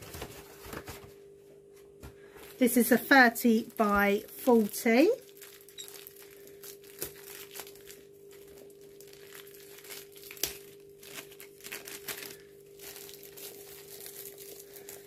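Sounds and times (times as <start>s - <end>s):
plastic wrapping crinkling: 2.3s - 15.0s.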